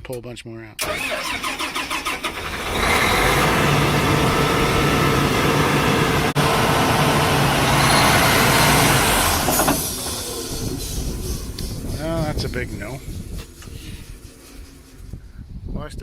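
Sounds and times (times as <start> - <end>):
combine engine under heavy load: 0.8 - 15.4.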